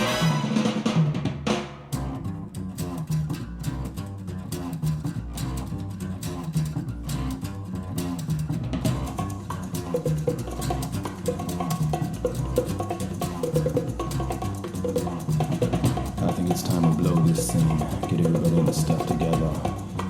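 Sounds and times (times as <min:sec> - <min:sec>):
jazz band over speakers: 0:00.0 - 0:20.0.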